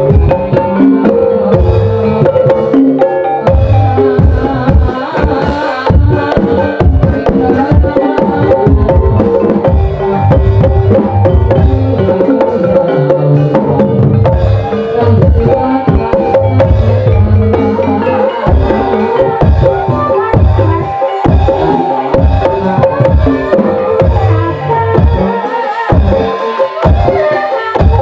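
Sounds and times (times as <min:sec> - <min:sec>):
rapid hand-drum strokes: 0:00.0 - 0:28.0
ringing metallophone tones: 0:00.0 - 0:28.0.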